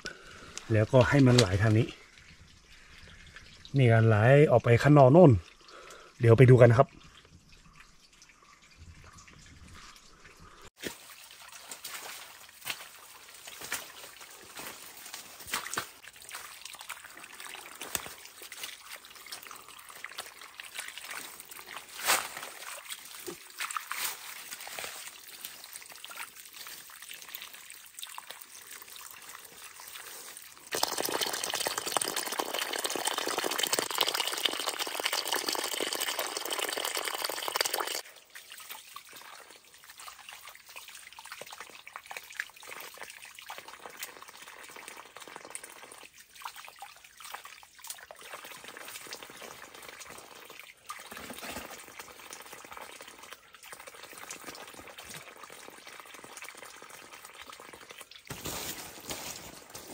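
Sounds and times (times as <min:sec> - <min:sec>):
creek water trickling: 0:00.0 - 0:59.9.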